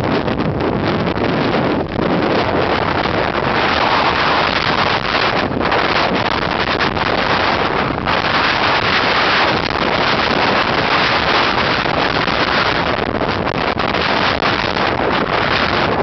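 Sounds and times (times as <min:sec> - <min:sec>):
heavy surf breaking: 0:00.0 - 0:16.0
wind buffeting microphone: 0:00.0 - 0:16.0.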